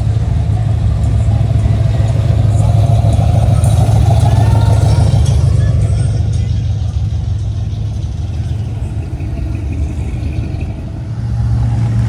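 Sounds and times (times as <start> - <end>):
car engine driving past: 0.0 - 12.0.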